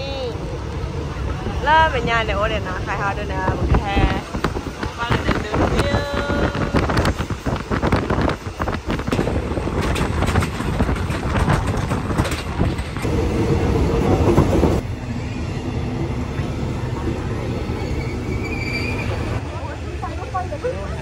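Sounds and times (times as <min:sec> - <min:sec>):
train rumbling on rails: 0:00.0 - 0:21.0
wind: 0:00.0 - 0:21.0.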